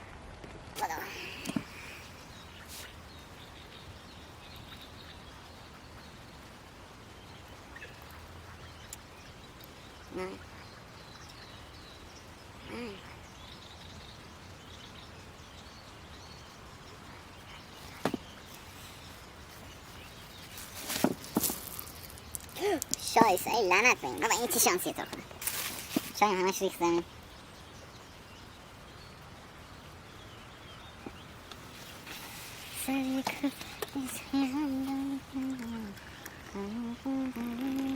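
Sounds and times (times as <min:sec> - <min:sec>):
low steady hiss: 0:00.0 - 0:37.9.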